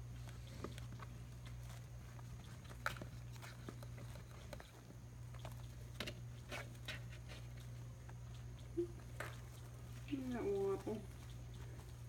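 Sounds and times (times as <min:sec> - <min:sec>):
low steady hum: 0:00.0 - 0:12.0
paws tapping and scuffing: 0:00.0 - 0:12.0.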